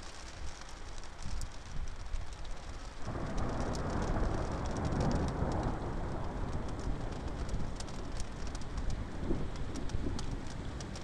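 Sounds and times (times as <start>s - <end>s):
steady rain drops: 0.0s - 11.0s.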